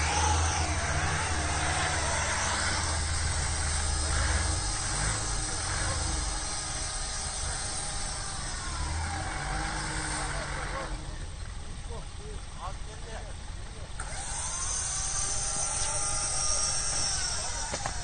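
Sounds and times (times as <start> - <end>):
heavy truck engine rumbling: 0.0 - 18.0.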